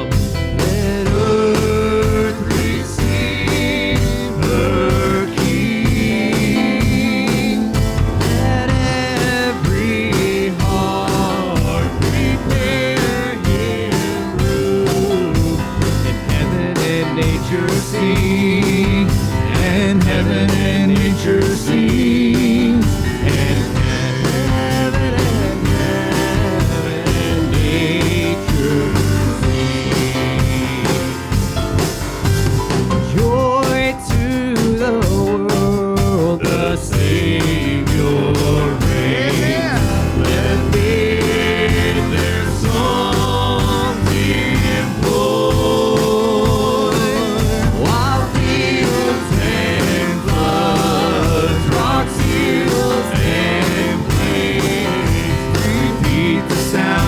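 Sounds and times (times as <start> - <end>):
people singing: 0.0 - 57.0
steady drum beat: 0.0 - 57.0
worship band playing: 0.0 - 57.0.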